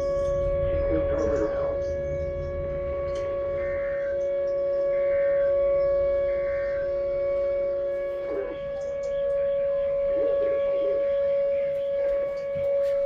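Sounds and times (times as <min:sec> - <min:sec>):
faint pulsing second tone: 0:00.0 - 0:13.0
warning siren steady tone: 0:00.0 - 0:13.0.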